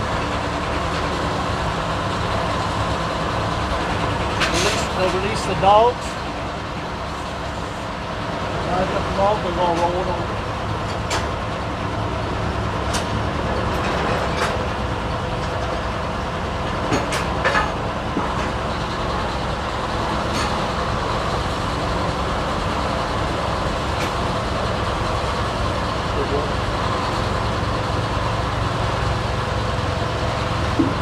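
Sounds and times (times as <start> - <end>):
sawmill engine running: 0.0 - 31.0.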